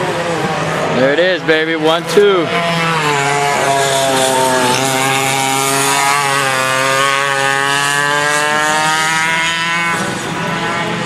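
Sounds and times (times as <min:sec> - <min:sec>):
kart engines revving past: 0:00.0 - 0:11.0.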